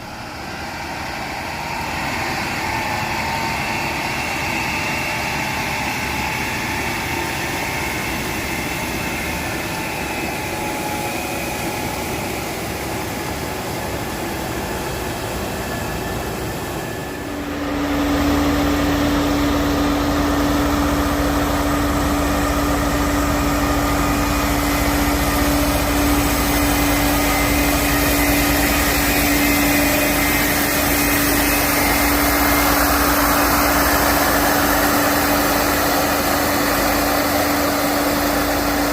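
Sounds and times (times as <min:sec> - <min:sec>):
construction machinery engines: 0:00.0 - 0:38.9
loud machine humming: 0:00.0 - 0:38.9.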